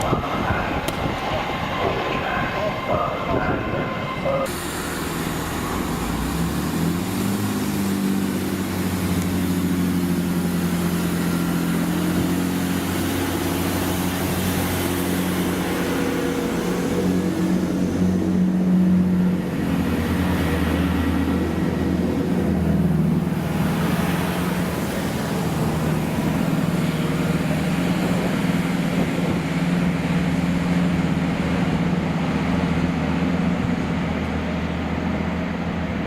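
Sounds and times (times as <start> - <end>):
rushing noise: 0.0 - 36.0
train engine drone: 0.0 - 36.0.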